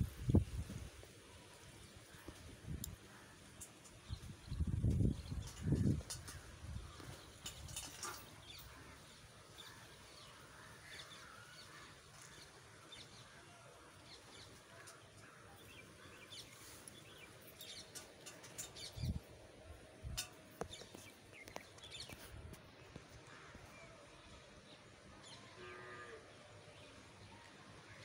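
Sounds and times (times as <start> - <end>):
birds chirping faintly: 1.0 - 28.0.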